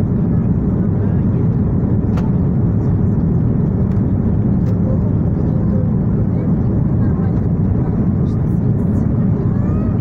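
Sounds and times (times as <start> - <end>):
jet cabin roar: 0.0 - 10.0.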